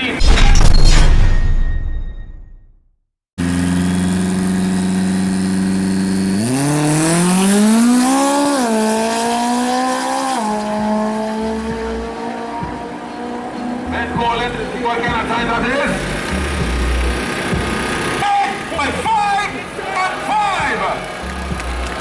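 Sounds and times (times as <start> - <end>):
drag racing car engine revving: 3.4 - 22.0.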